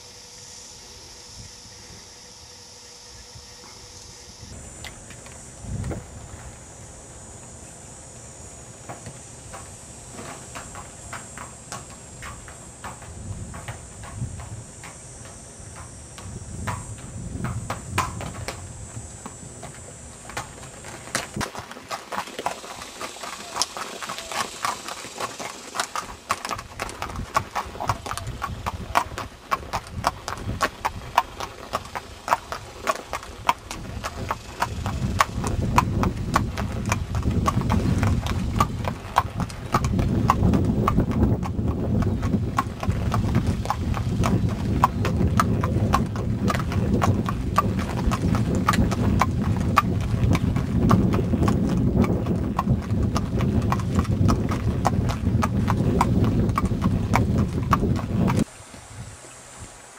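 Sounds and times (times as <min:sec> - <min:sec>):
horse hooves on paved road: 0:03.2 - 0:59.8.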